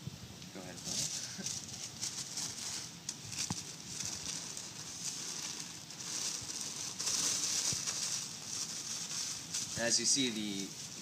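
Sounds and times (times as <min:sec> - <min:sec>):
tissue paper rustling: 0:00.7 - 0:11.0.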